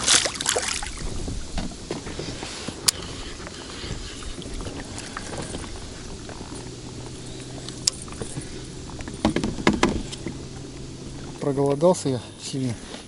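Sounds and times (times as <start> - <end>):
water lapping against boat: 0.0 - 12.1
wind: 0.0 - 13.0.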